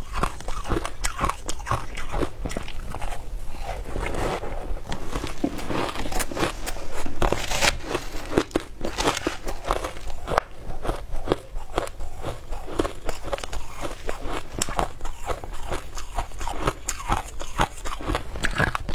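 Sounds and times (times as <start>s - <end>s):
ice being chewed with crunches: 0.0s - 18.9s.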